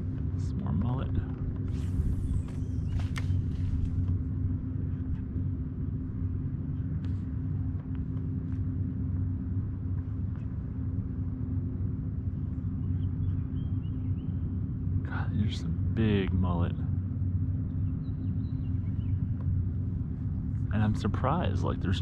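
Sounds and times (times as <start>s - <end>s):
constant low hum: 0.0s - 22.0s
steady low rumble: 0.0s - 22.0s.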